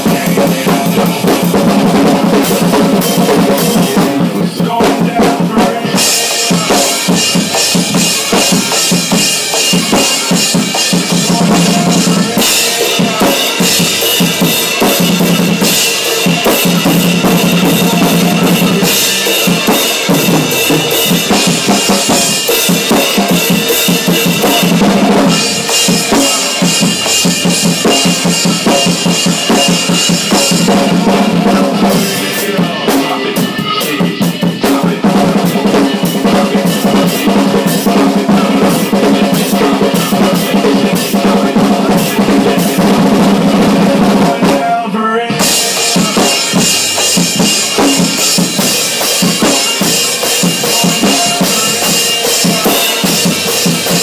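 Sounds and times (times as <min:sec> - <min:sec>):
drum kit played hard: 0:00.0 - 0:54.0.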